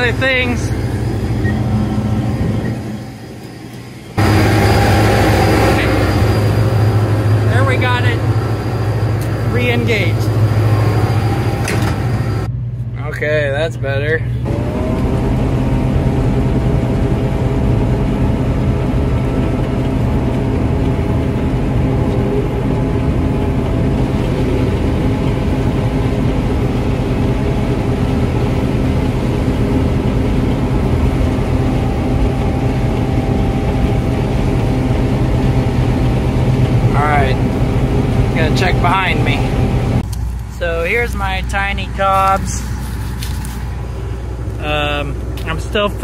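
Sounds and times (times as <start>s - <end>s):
combine harvester drone: 0.0s - 46.0s.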